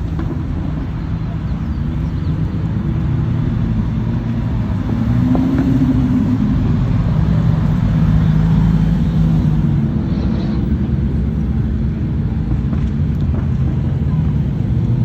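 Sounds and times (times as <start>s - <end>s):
cars driving past slowly: 0.0s - 15.0s.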